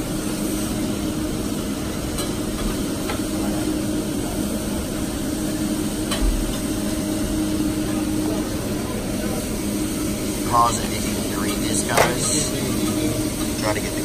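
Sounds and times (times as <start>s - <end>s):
restaurant background hum: 0.0s - 14.0s.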